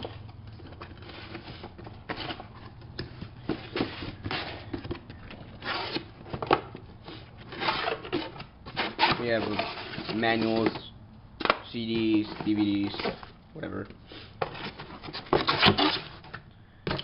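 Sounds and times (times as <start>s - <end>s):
packaging rustling and scraping: 0.0s - 10.9s, 11.7s - 13.4s, 14.2s - 16.4s.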